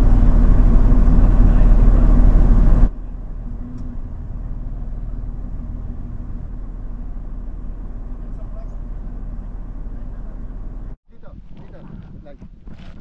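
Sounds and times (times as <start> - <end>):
loud mechanical running noise: 0.0 - 11.0
truck engine idling: 0.0 - 11.0.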